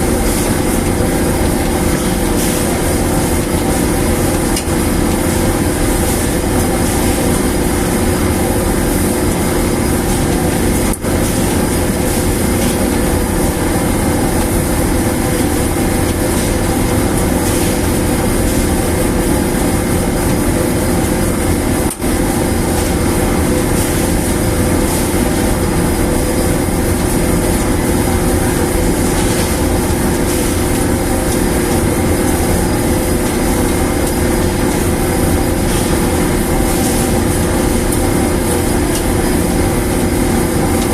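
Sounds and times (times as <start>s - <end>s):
dryer machine droning: 0.0s - 40.9s.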